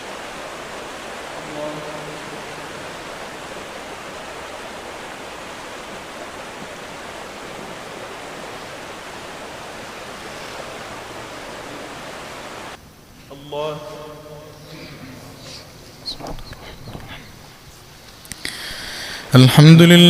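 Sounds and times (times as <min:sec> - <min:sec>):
sound system hiss: 0:00.0 - 0:20.0.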